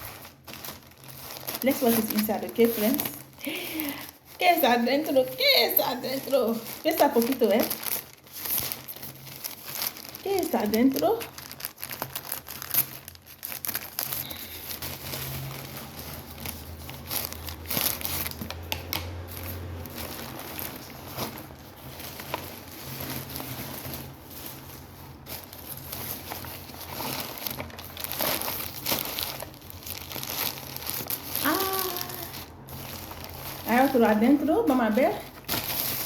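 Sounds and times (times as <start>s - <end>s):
packaging crinkling and tearing: 0.0s - 36.0s.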